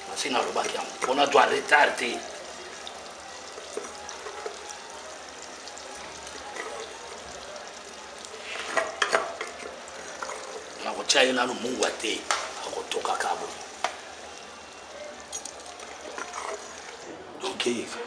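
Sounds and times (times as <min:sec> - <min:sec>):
sauce hissing in pot: 0:00.0 - 0:17.1.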